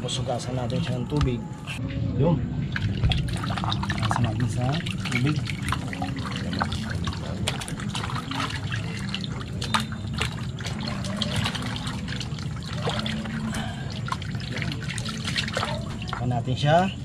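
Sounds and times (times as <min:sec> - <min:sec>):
water splashing and trickling: 0:00.0 - 0:01.4, 0:02.6 - 0:17.0
low hum: 0:00.0 - 0:17.0
water dripping: 0:02.7 - 0:16.4.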